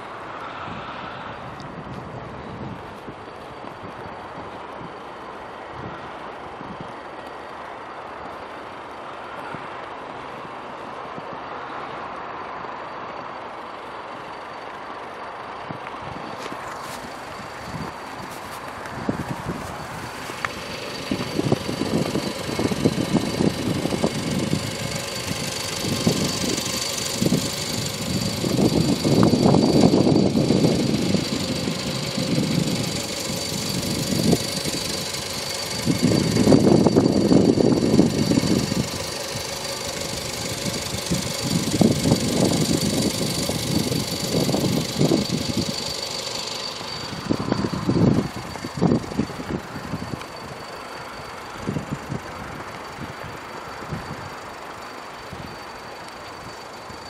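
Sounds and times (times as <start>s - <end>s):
car engine idling: 1.4s - 57.0s.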